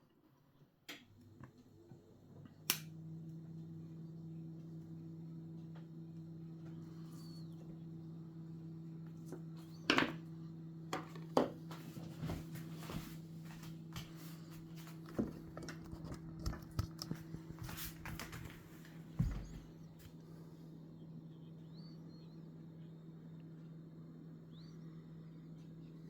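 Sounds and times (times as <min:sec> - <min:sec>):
steady low hum: 0:00.3 - 0:26.0.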